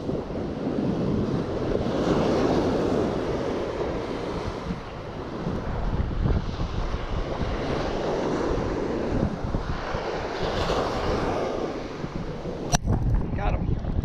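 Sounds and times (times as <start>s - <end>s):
surf breaking on beach: 0.0s - 13.4s
wind buffeting microphone: 0.0s - 14.0s.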